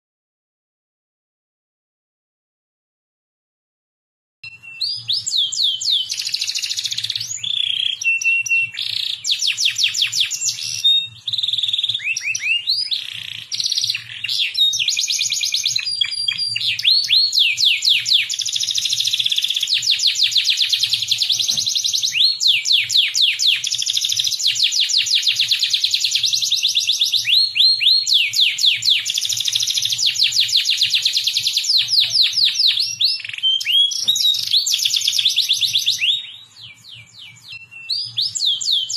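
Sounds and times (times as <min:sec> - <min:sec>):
canary singing trills: 0:04.4 - 0:38.9.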